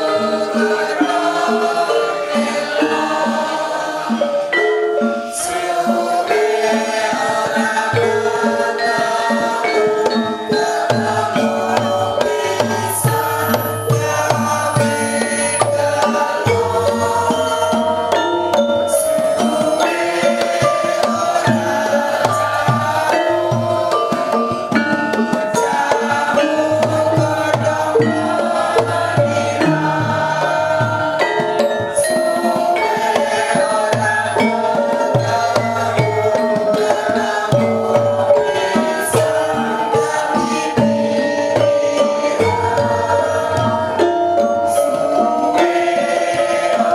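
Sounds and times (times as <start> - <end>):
hand drum beat: 0.0 - 46.9
pitched melody instruments: 0.0 - 46.9.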